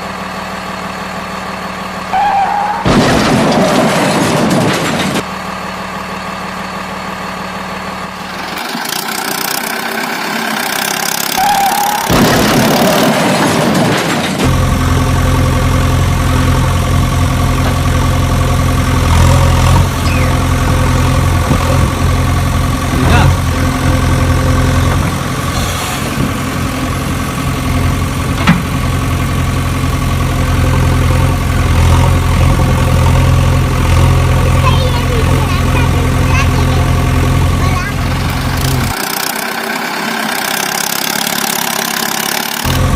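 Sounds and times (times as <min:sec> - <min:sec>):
engine idling: 0:00.0 - 0:42.9
thin noisy engine sound: 0:00.0 - 0:42.9.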